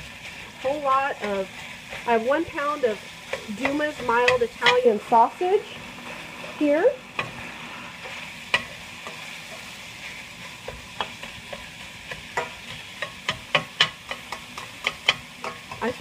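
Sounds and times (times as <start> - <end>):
metal spatula scraping a pan: 0.0 - 16.0
sausage sizzling in a skillet: 0.0 - 16.0.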